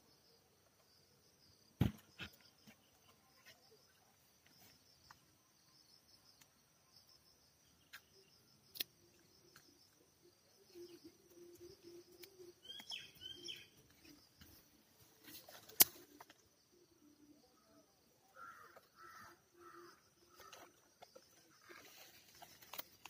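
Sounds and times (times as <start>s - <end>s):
faint insect chirping: 0.0s - 23.0s
faint bird chirp: 2.2s - 23.0s.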